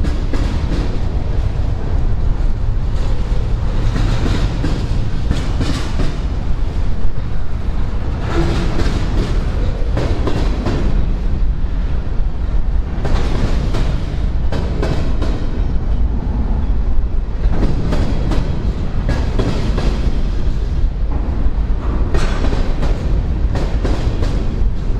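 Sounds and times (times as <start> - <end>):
train wheels clacking on rail joints: 0.0 - 16.0, 17.3 - 24.9
freight train rolling past: 0.0 - 24.9.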